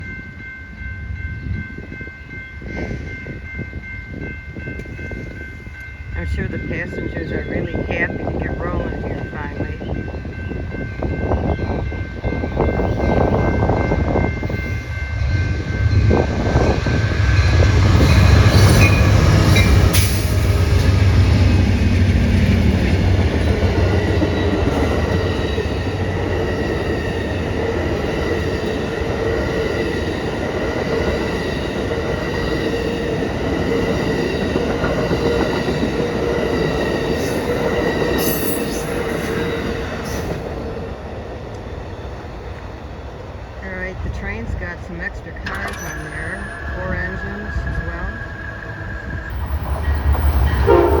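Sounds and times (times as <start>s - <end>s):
diesel locomotive rumble: 0.0s - 51.0s
passenger cars rolling by: 6.2s - 51.0s.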